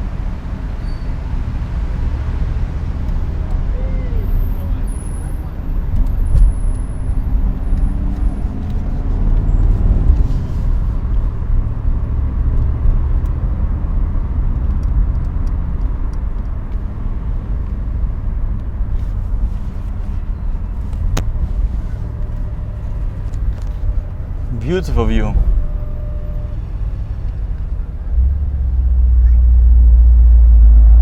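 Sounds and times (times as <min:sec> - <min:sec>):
car engine running: 0:00.0 - 0:30.5
road noise: 0:00.0 - 0:31.0.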